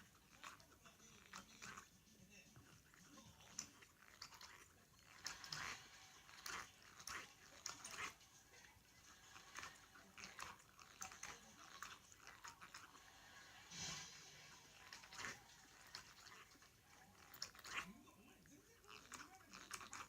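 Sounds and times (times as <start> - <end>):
dog gnawing rubber toy: 0.0 - 20.0.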